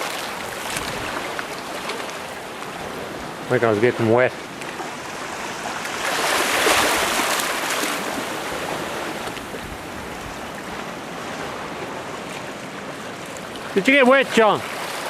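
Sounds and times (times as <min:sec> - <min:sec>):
ocean wave washing over rocks: 0:00.0 - 0:15.0.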